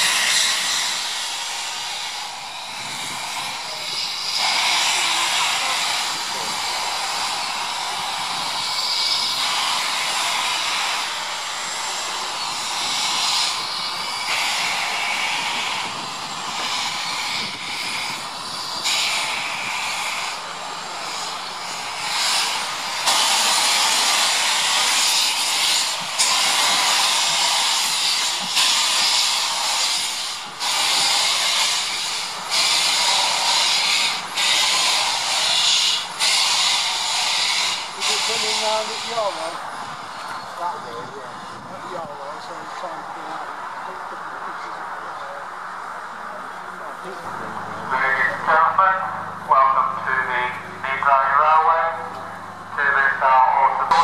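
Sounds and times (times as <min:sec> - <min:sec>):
steam locomotive hissing steam: 0:00.0 - 0:54.0.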